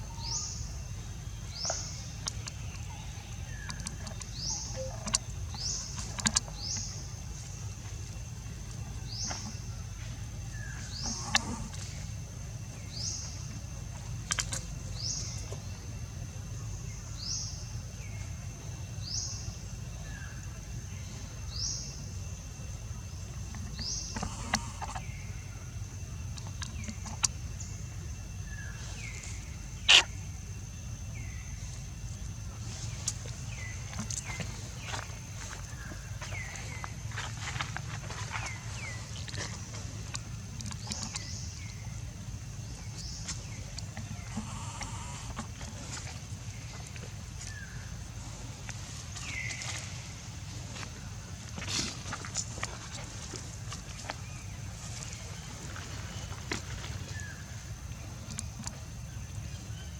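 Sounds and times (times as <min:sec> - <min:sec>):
low background rumble: 0:00.0 - 0:59.9.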